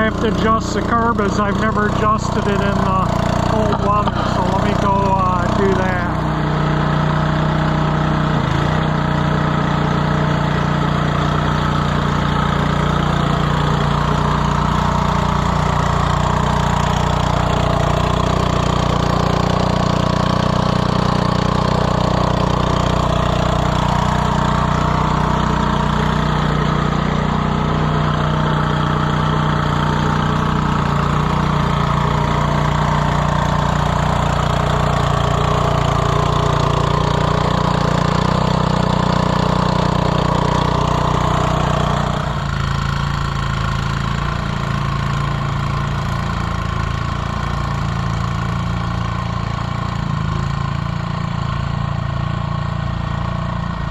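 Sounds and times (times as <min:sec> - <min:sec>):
snowblower engine running: 0:00.0 - 0:53.9.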